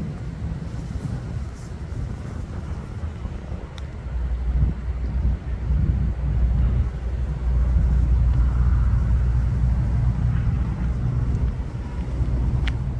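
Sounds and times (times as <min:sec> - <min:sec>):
road traffic rumble: 0:00.0 - 0:12.9.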